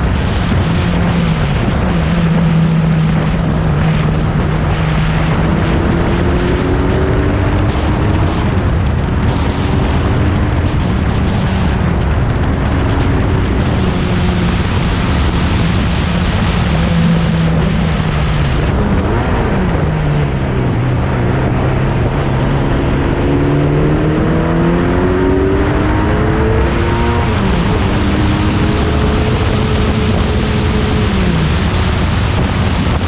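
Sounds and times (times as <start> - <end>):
racing car engine: 0.0 - 33.0.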